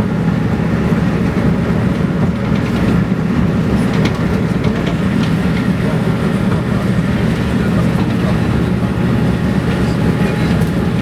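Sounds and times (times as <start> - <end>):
train rumbling along track: 0.0 - 11.0.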